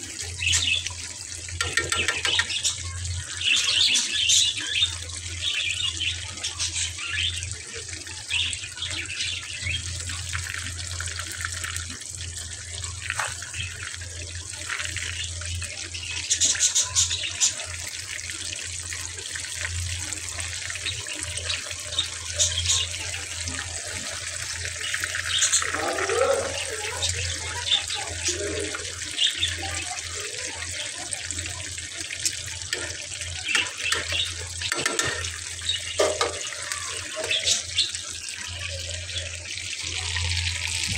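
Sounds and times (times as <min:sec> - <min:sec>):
fish deep-frying in oil: 0:00.0 - 0:40.9.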